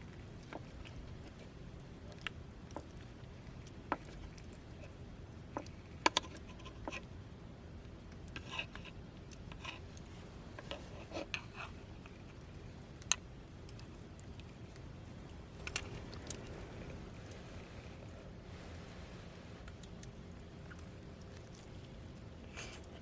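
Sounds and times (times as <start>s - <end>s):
faint low background noise: 0.0s - 23.0s.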